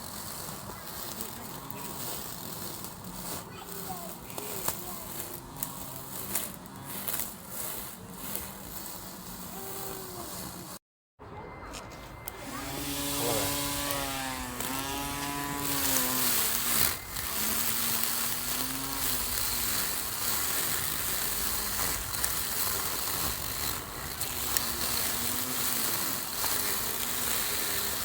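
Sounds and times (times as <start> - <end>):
lawn mower cutting grass: 0.0 - 10.8, 12.2 - 28.0.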